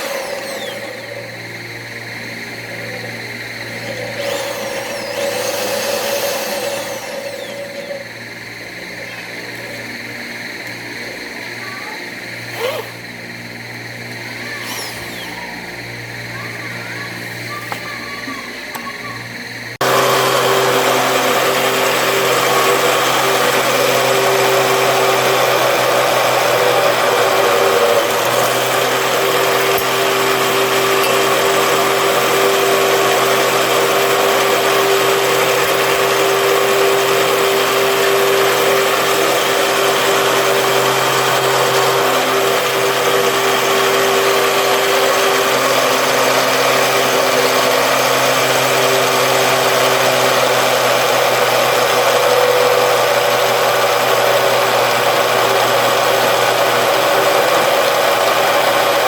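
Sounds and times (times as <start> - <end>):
drill press running: 0.0 - 59.0.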